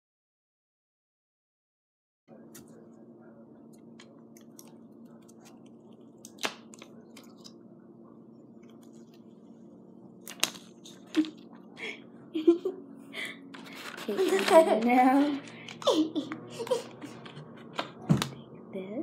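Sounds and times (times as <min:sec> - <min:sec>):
steady low hum: 0:02.3 - 0:19.0.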